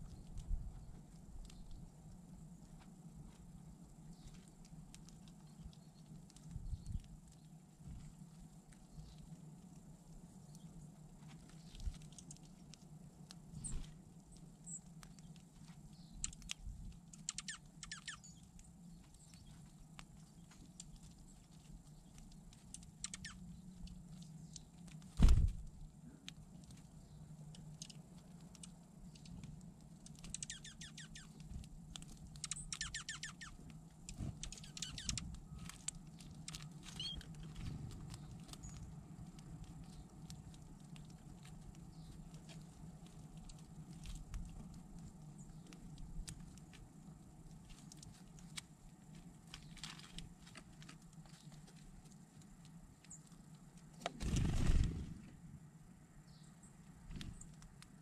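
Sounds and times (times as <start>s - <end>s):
birds pecking in seed on snow: 0.0s - 58.0s.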